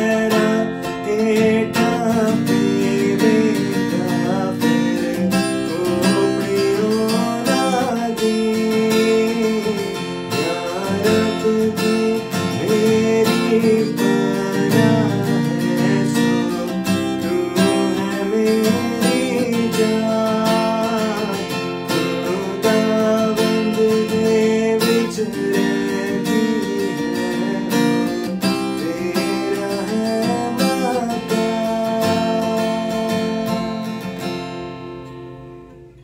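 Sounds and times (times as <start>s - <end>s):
man singing: 0.0s - 34.1s
acoustic guitar strumming: 0.0s - 36.0s.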